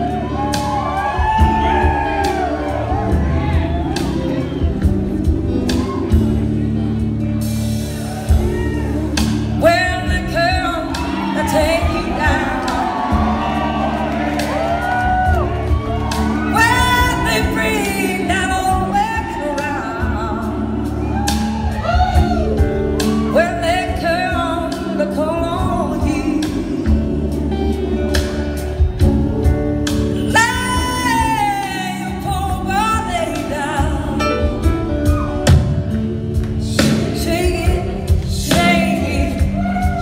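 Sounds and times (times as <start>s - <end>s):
bass guitar: 0.0s - 40.0s
electric guitar: 0.0s - 40.0s
person singing: 0.0s - 40.0s.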